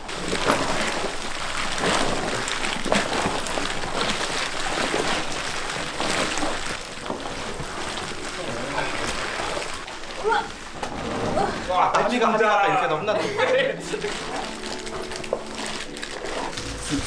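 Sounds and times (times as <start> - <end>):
hands squishing wet food: 0.0 - 10.8, 13.7 - 17.0
small crackles: 0.0 - 11.7, 13.7 - 17.0.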